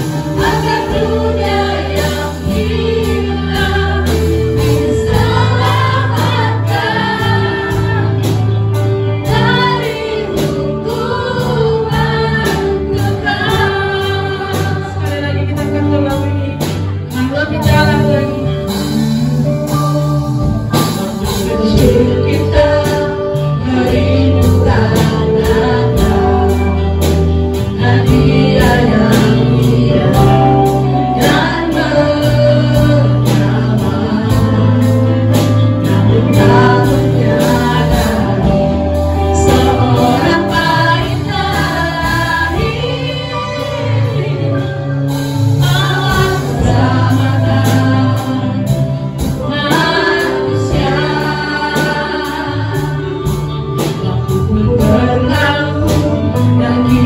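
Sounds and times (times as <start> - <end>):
live band with electric guitar: 0.0 - 57.0
women singing worship song: 0.0 - 57.0.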